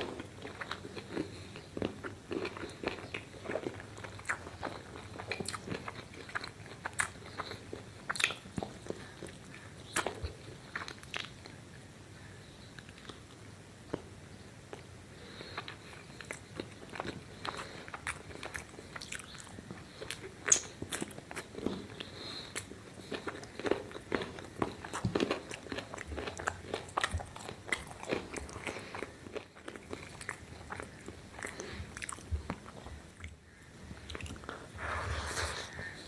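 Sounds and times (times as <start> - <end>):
person chewing crunchy food: 0.0 - 11.6, 14.7 - 36.0.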